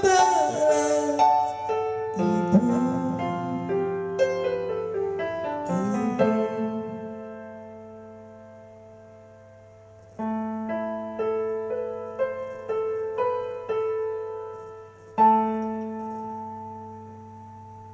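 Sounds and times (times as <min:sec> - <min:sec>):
piano ballad: 0:00.0 - 0:17.9.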